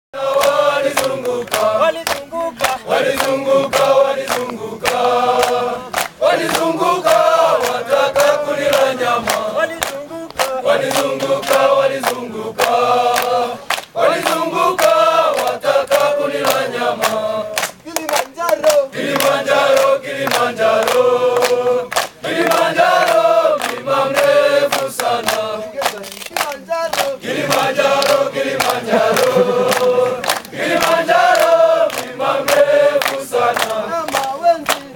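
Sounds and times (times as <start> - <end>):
hands clapping: 0.2 - 34.9
men singing together: 0.2 - 34.9.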